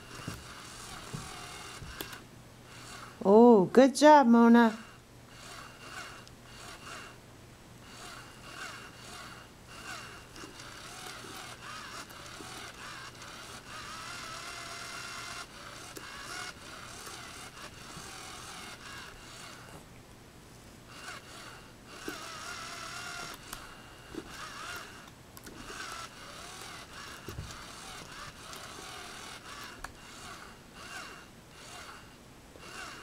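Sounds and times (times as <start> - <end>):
toy motor whirring: 0.0 - 3.2, 4.6 - 7.2, 7.8 - 19.7, 20.9 - 33.0
steady low hum: 0.0 - 33.0.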